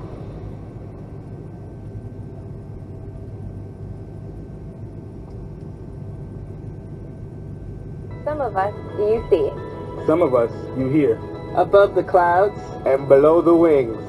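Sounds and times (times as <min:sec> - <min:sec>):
aircraft cabin hum: 0:00.0 - 0:14.0
faint steady tones: 0:00.0 - 0:14.0.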